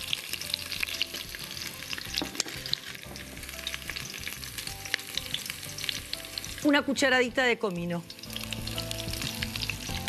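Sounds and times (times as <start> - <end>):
aromatics frying in hot oil: 0.0 - 10.0.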